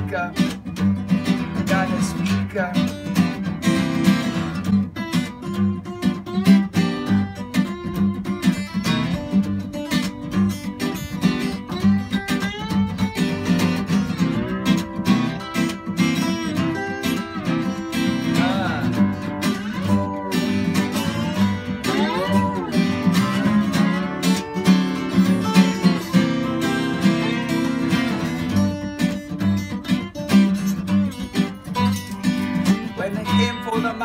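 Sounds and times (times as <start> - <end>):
slide guitar gliding notes: 0.0 - 34.0
strummed guitar rhythm: 0.0 - 34.0.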